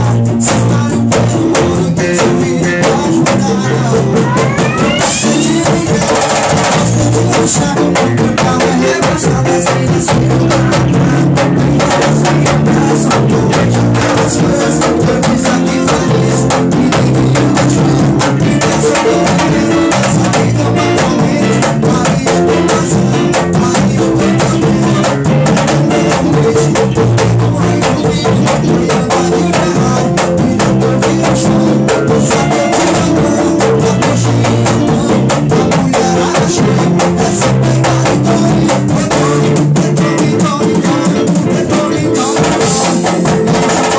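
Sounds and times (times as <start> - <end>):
band music with drums and bass: 0.0 - 43.9.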